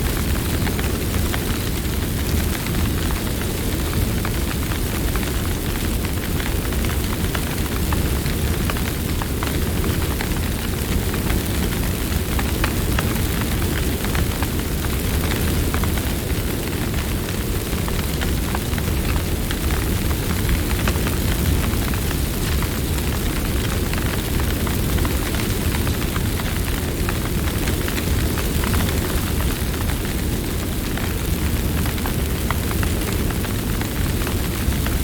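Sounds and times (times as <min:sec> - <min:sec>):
campfire low rumble: 0:00.0 - 0:35.0
fire crackling pops: 0:00.0 - 0:35.0.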